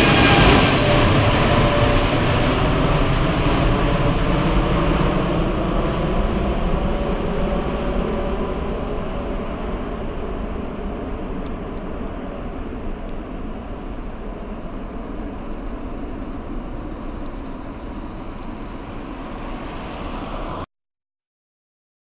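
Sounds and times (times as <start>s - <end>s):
jet engine rumble: 0.0s - 20.7s.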